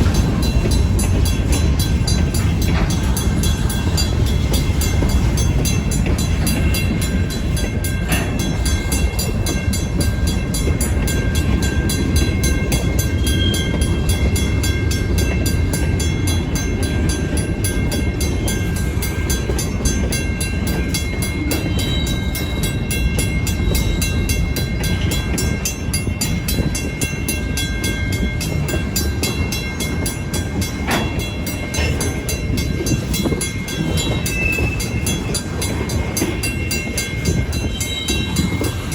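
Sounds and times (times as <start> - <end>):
crossing bell ringing: 0.0 - 38.9
freight cars rumbling: 0.0 - 38.9.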